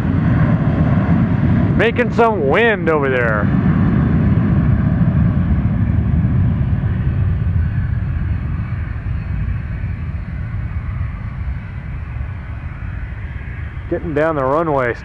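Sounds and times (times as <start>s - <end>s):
jet engines at takeoff: 0.0s - 15.0s.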